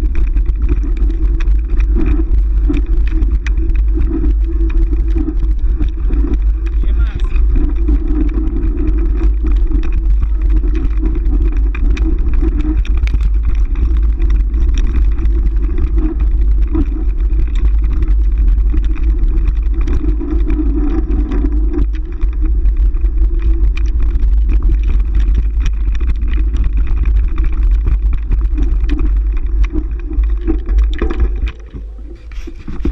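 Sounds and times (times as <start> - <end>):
bike ride rumble: 0.0 - 32.9.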